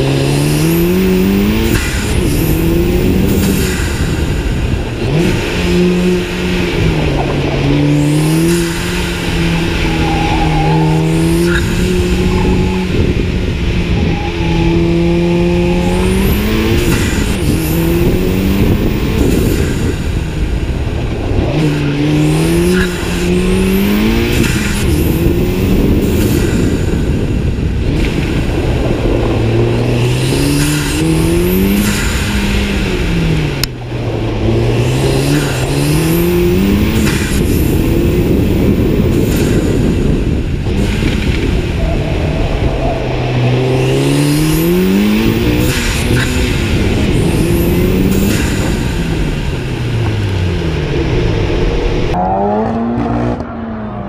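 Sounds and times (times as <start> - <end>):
car engine accelerating and shifting: 0.0 - 54.0.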